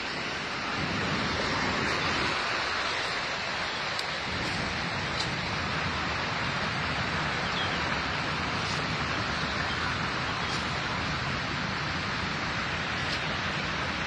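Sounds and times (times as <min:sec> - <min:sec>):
wind rushing on microphone: 0:00.0 - 0:14.0.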